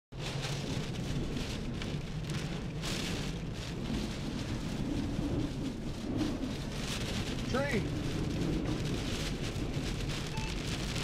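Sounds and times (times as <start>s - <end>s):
heavy rain beating on a car: 0.1s - 11.0s
steady low rumble: 0.1s - 11.0s
wind: 0.1s - 11.0s.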